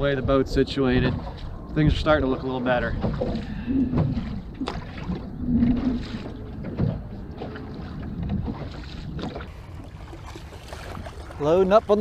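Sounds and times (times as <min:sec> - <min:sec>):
water against boat: 0:00.0 - 0:12.0
wind on microphone: 0:00.0 - 0:12.0.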